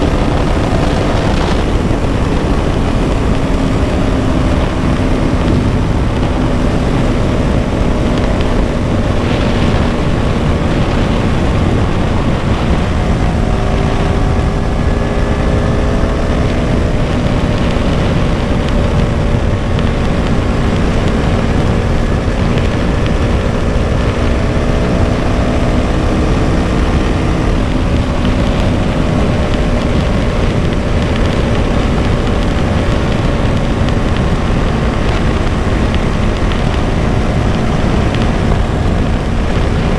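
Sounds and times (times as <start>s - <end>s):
low rush of noise: 0.0s - 39.9s
motorcycle engine running: 0.0s - 39.9s.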